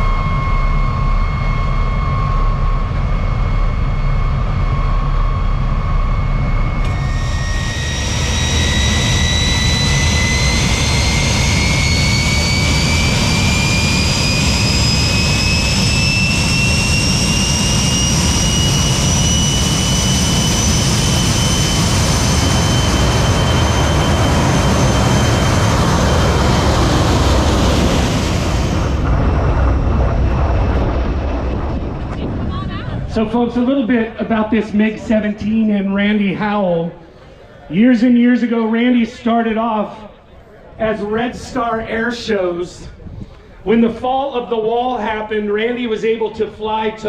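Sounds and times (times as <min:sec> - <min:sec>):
jet engine rumble: 0:00.0 - 0:47.0
jet turbine whine: 0:00.0 - 0:47.0.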